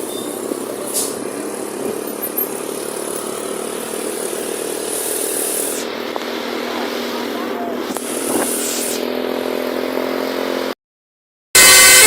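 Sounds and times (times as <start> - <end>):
traffic engine and road noise: 0.0 - 10.8.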